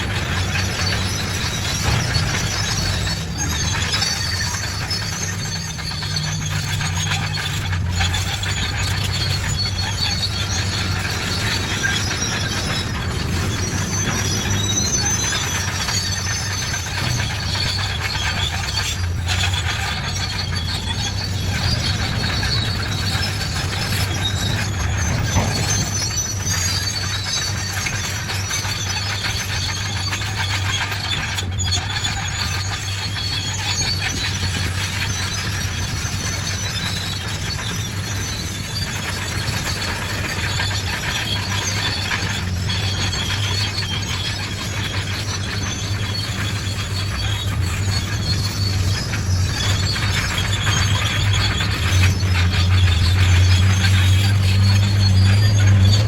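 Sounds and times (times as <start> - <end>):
diesel engine hum: 0.0 - 56.0
steel tracks clanking and squealing: 0.0 - 56.0.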